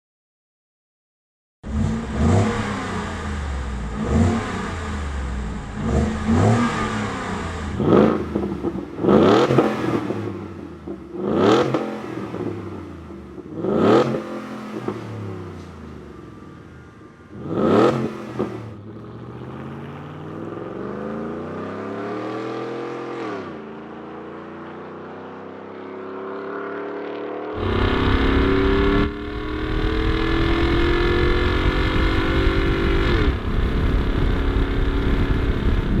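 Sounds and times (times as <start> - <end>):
truck engine revving: 1.7 - 23.4, 27.6 - 36.0.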